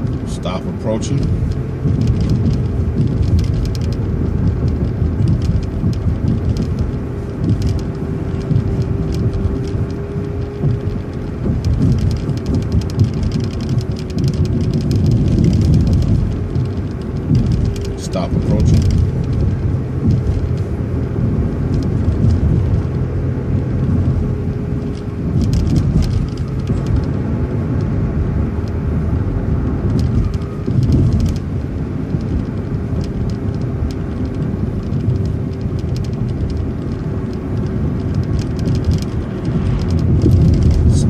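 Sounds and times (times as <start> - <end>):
bus engine and road noise: 0.0 - 41.0
light rattles: 0.0 - 41.0.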